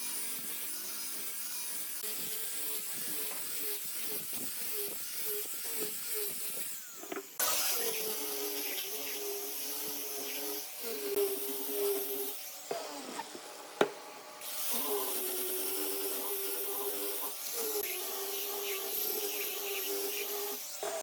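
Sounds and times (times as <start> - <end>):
power tool humming: 0.0 - 21.0.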